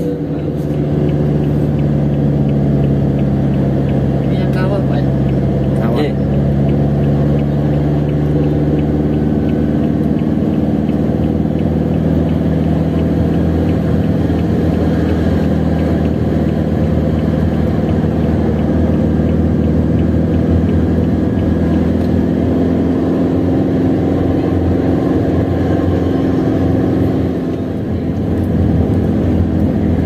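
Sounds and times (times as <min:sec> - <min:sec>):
road noise: 0:00.0 - 0:30.0
vehicle engine under load: 0:00.0 - 0:30.0
faint regular tick: 0:00.6 - 0:22.8, 0:24.2 - 0:30.0.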